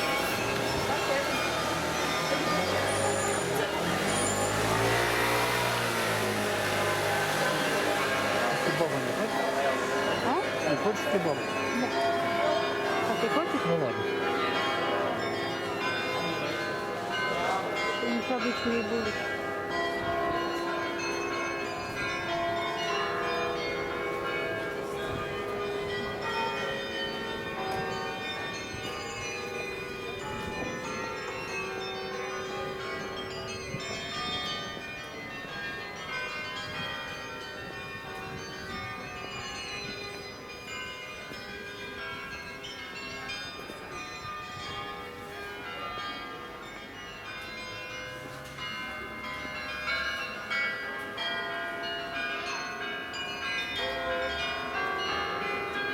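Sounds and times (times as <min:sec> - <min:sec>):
carillon bells playing a tune: 0:00.0 - 0:55.9.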